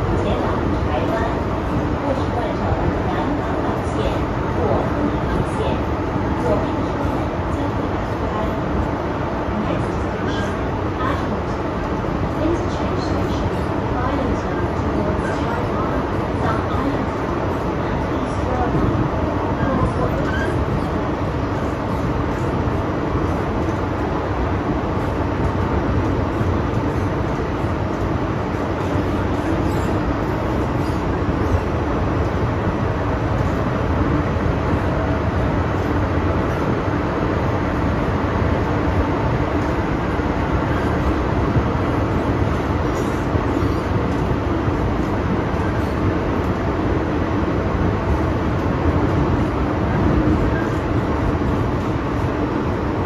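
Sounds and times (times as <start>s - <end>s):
metro wheels rumbling on rail: 0.0s - 53.0s
tunnel noise: 0.0s - 53.0s.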